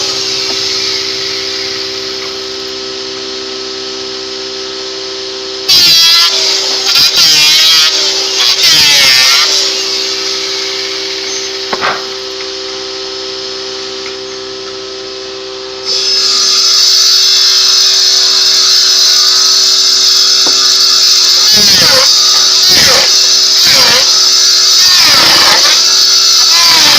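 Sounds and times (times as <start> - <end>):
power tool motor whine: 0.0 - 26.9.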